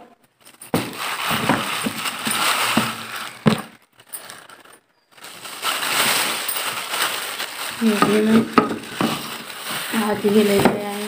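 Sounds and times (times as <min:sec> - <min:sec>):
plastic bag crinkling: 0:00.3 - 0:11.0.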